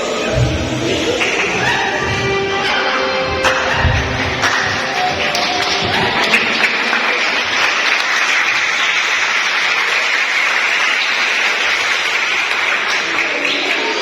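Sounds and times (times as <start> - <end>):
audience applauding: 1.0 - 14.0.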